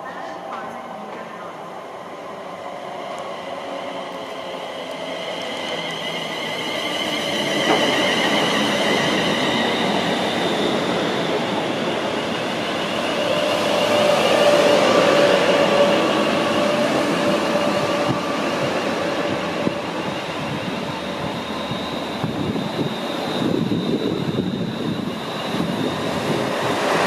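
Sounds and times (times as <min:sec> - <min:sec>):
train wheels rumbling: 0:02.7 - 0:27.0.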